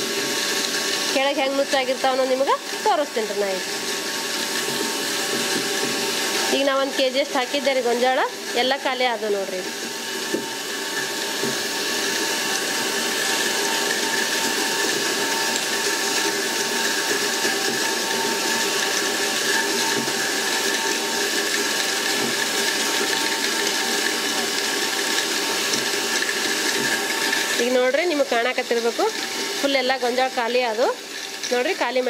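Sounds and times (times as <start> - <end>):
flour mill grinding grain: 0.0 - 32.0.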